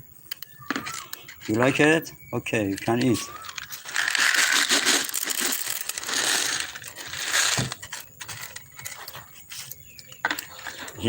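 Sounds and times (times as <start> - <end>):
dry kibble rattling and clicking: 0.3 - 11.0.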